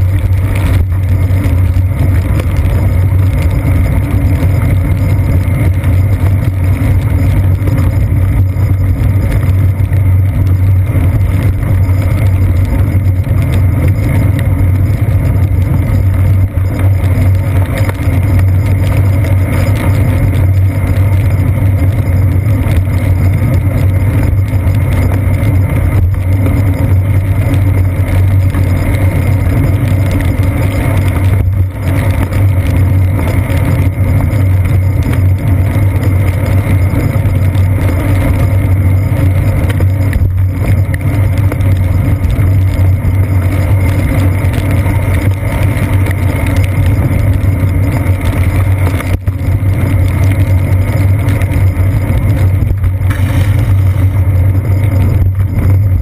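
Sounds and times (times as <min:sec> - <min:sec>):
road vibration rumble: 0:00.0 - 0:56.0
wind noise: 0:00.0 - 0:56.0.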